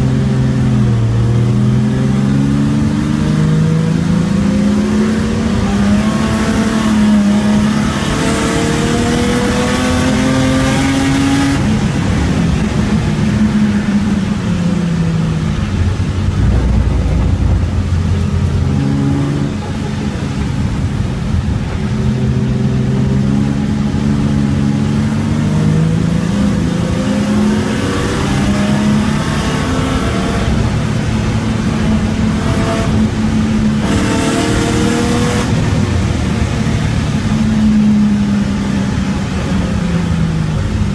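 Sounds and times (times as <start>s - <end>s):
race car engine revving: 0.0s - 40.8s.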